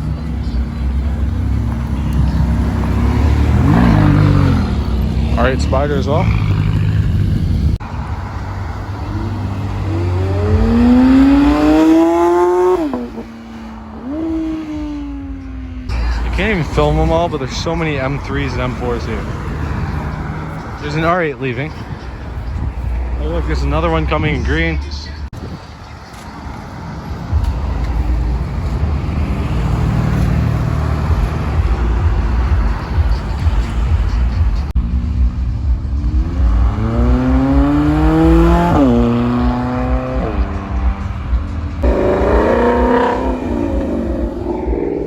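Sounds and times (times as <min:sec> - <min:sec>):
sports car engine accelerating: 0:00.0 - 0:25.3, 0:25.9 - 0:45.0.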